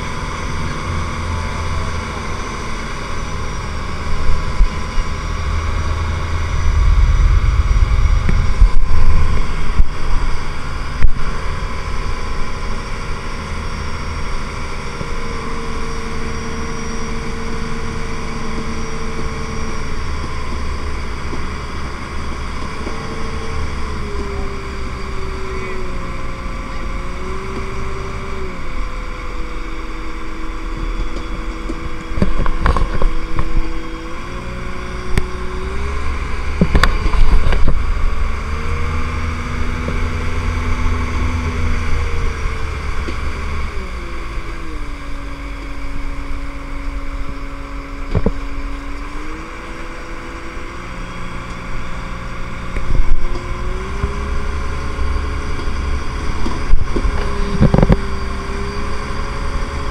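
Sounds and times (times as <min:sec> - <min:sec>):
boat engine running under load: 0:00.0 - 0:59.9
wind and hull noise: 0:00.0 - 0:59.9.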